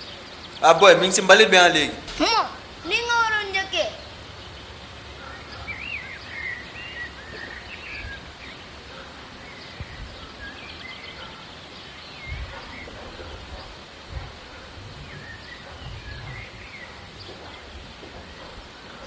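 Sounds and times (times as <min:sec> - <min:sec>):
steady background hiss: 0:00.0 - 0:19.0
small birds chirping: 0:02.1 - 0:19.0.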